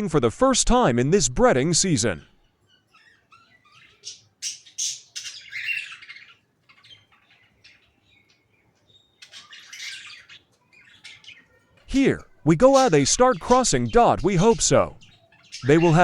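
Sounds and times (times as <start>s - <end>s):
budgerigars chattering and squawking: 2.4s - 16.0s.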